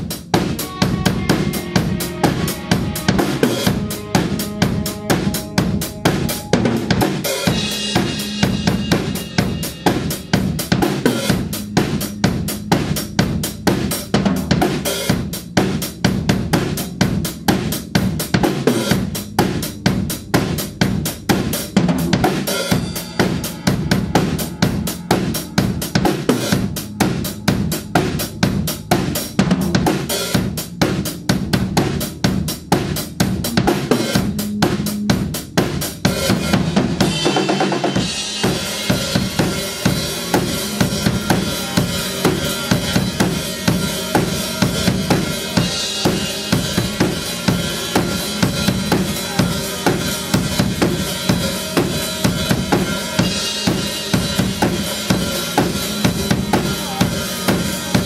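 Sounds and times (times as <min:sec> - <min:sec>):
bass guitar: 0:00.0 - 0:58.0
drum kit beat: 0:00.0 - 0:58.0.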